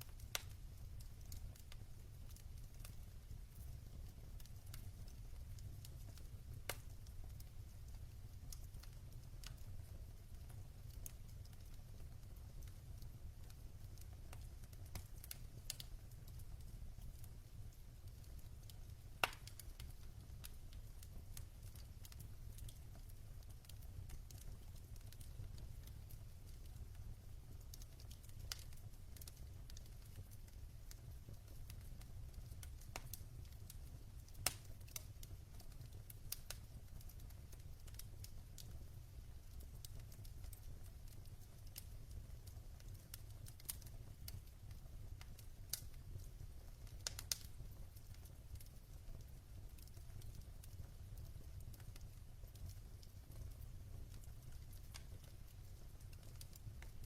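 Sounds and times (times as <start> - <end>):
logs crackling and popping in fire: 0.0 - 57.0
low fire rumble: 0.0 - 57.0.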